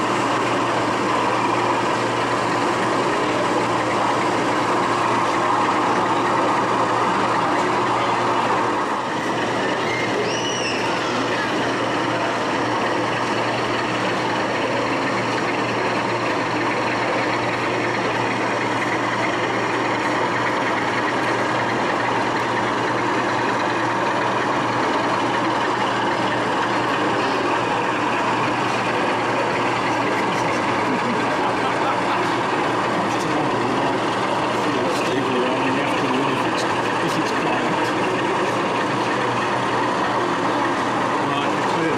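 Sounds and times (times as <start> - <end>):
engine-like drone: 0.0 - 41.9.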